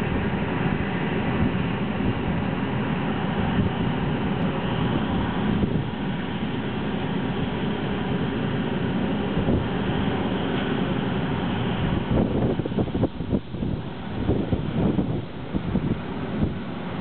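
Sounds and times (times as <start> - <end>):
boat engines droning: 0.0 - 17.0
wind rumbling on microphone: 0.0 - 17.0.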